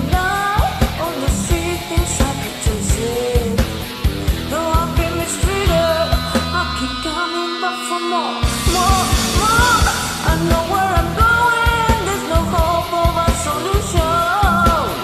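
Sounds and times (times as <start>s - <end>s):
drums: 0.0s - 15.0s
electric guitar bending notes: 0.0s - 15.0s
hard rock band playing: 0.0s - 15.0s.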